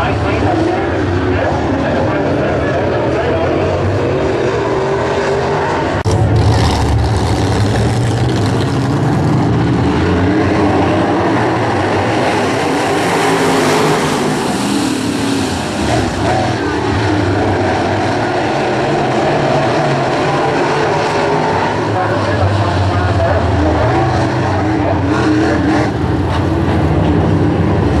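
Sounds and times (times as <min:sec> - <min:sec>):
race car engines racing: 0:00.0 - 0:28.0.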